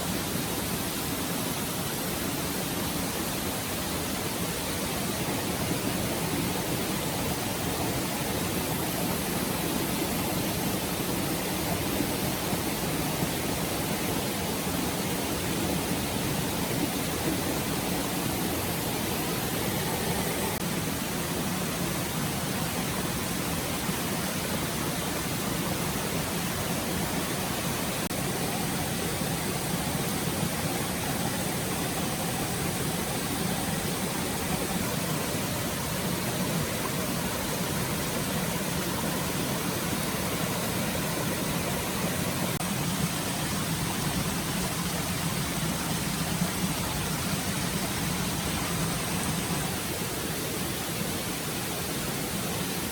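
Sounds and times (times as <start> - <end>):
stream running water: 0.0 - 52.9.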